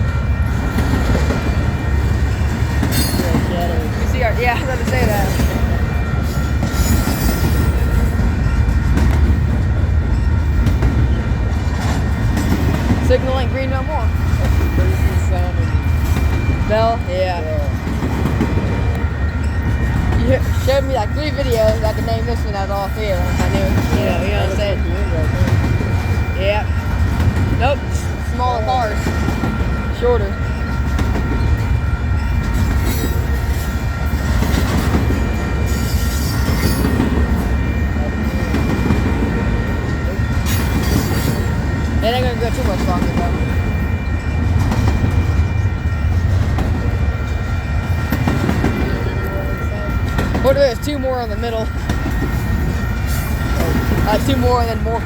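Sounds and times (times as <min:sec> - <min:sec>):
faint crossing bell: 0:00.0 - 0:55.0
freight train rumbling past: 0:00.0 - 0:55.0.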